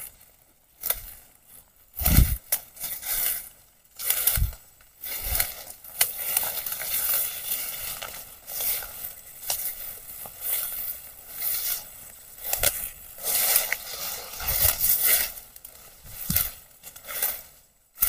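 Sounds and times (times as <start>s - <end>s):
footsteps crunching dry leaves: 0.0s - 17.7s.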